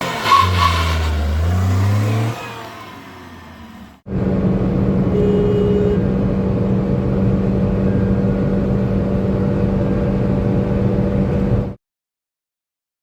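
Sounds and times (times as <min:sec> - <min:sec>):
car engine accelerating: 0:00.0 - 0:11.8
engine and road drone: 0:00.0 - 0:11.8.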